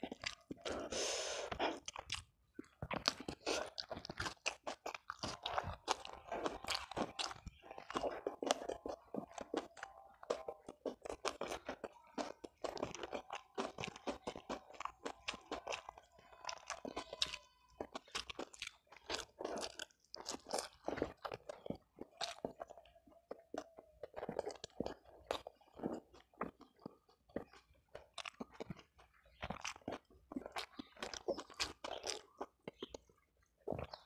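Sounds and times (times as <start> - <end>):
close-miked chewing: 0.0 - 34.0.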